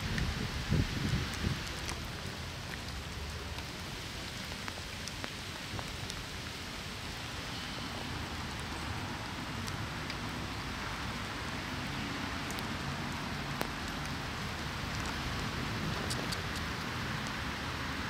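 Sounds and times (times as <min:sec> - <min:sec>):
raindrops ticking close by: 0:00.0 - 0:18.0
steady rain falling: 0:00.0 - 0:18.0.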